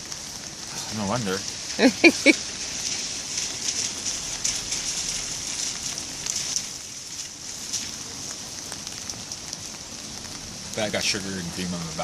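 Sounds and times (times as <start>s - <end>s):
light rain on wet ground: 0.0s - 12.0s.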